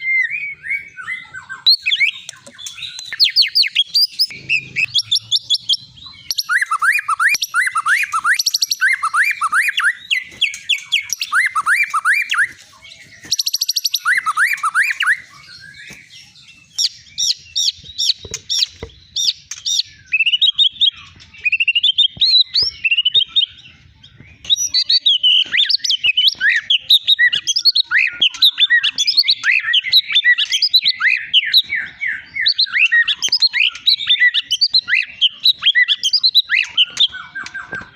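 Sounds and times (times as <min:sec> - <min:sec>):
songbird singing varied song: 0:00.0 - 0:37.9.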